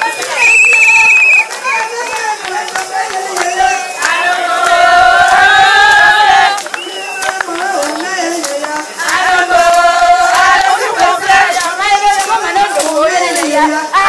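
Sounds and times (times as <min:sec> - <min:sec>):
women singing in unison: 0:00.0 - 0:14.0.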